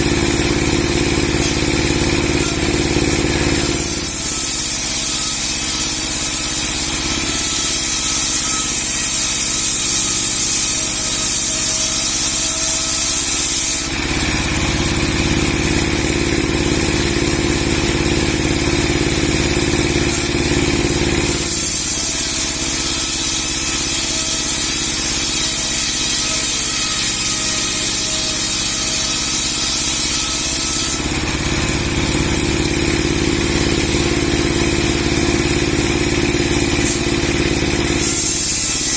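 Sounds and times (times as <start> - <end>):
sawmill saw blade running: 0.0 - 38.9.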